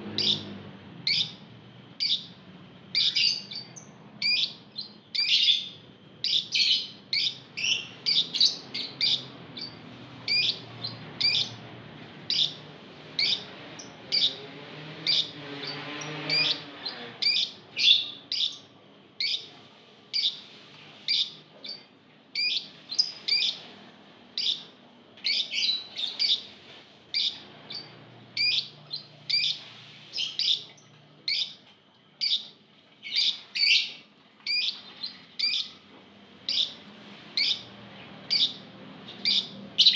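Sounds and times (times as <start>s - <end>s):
lovebirds chirping: 0.1s - 1.4s, 2.0s - 20.5s, 21.1s - 23.7s, 24.4s - 35.8s, 36.4s - 36.8s, 37.4s - 39.9s.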